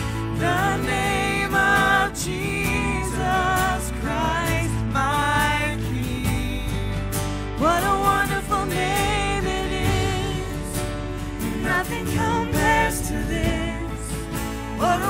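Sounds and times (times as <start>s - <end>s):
worship band playing: 0.0s - 15.0s
woman singing with vibrato: 0.2s - 6.6s, 7.6s - 15.0s.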